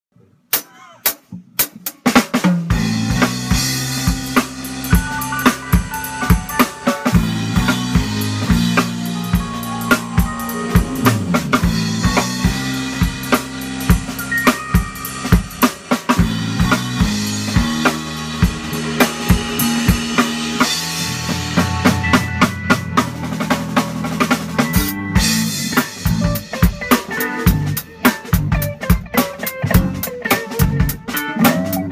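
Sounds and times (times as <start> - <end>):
drum kit: 0.4 - 31.9
bass line: 2.7 - 31.9
digital piano: 2.7 - 31.9
electric guitar: 2.7 - 31.9.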